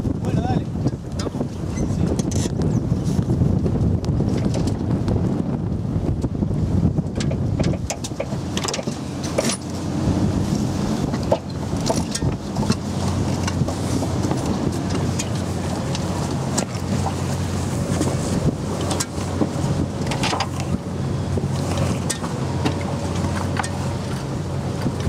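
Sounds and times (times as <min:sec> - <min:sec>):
wind buffeting microphone: 0:00.0 - 0:25.0
boat clicks and knocks: 0:00.8 - 0:02.8, 0:04.0 - 0:05.3, 0:07.0 - 0:25.0.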